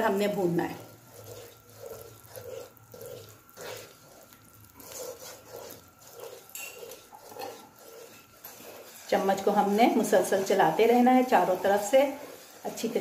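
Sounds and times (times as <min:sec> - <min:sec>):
faint sizzle: 0:00.0 - 0:13.0
spatula scraping a pan: 0:00.0 - 0:13.0.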